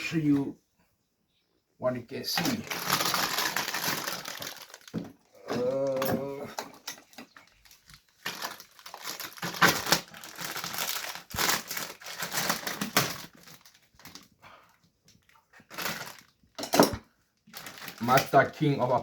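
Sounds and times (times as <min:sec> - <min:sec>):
rustling and crinkling: 0:02.3 - 0:19.0.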